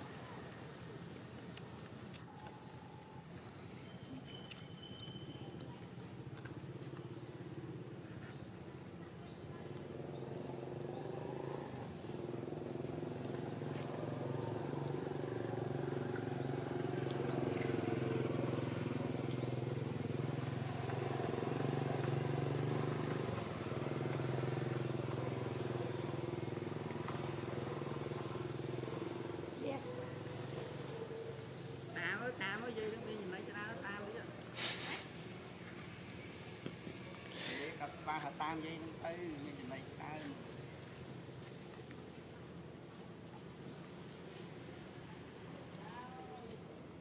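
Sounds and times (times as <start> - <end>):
engine humming: 3.5 - 47.0.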